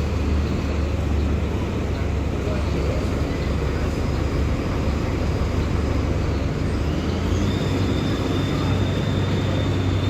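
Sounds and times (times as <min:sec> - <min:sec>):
diesel bus engine rumbling: 0:00.0 - 0:10.0.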